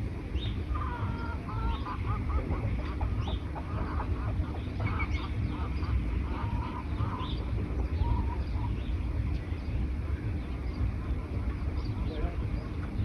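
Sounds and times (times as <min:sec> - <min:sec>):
birds calling: 0:00.0 - 0:13.0
steady low rumble: 0:00.0 - 0:13.0
higher bird chirps: 0:00.3 - 0:13.0.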